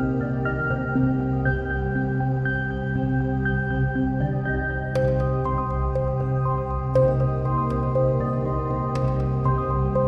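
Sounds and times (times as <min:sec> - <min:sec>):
calm new-age music: 0:00.0 - 0:10.0.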